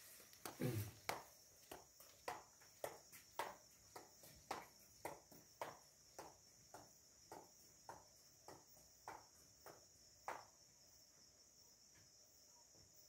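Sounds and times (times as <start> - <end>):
flip-flop footsteps on concrete: 0.0 - 10.8
crickets chirping: 0.0 - 13.0.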